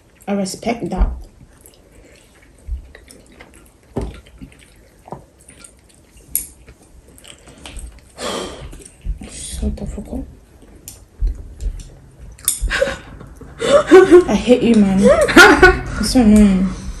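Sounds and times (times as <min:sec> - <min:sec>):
wet eating sounds: 0:00.0 - 0:17.0.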